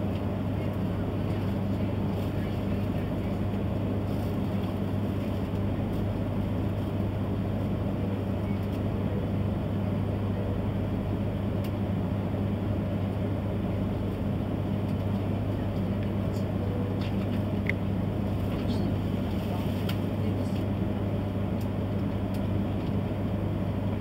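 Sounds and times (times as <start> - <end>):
low hum inside train car: 0.0 - 24.0.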